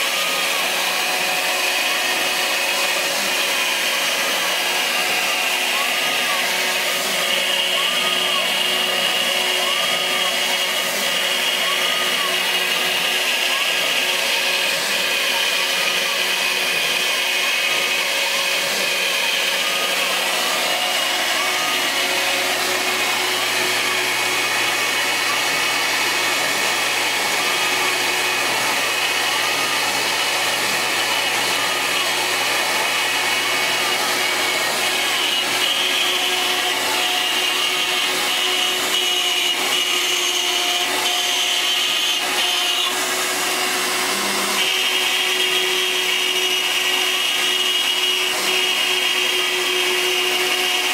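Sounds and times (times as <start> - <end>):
bit cutting wood: 0.0 - 50.9
router spindle whine: 0.0 - 50.9.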